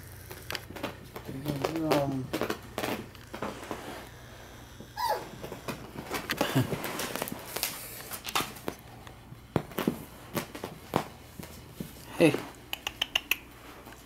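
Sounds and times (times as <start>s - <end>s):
puppy paws scampering on carpet: 0.2s - 4.1s, 4.8s - 14.0s.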